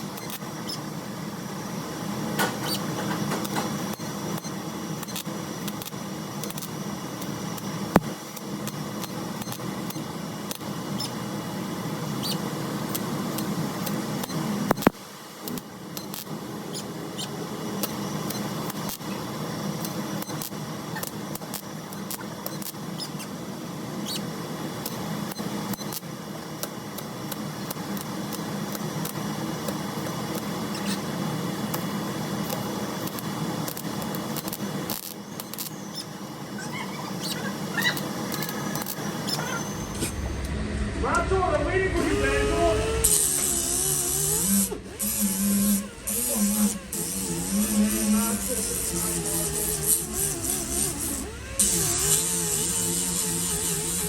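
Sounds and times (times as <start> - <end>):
welder crackling: 0.0 - 40.6, 42.0 - 54.0.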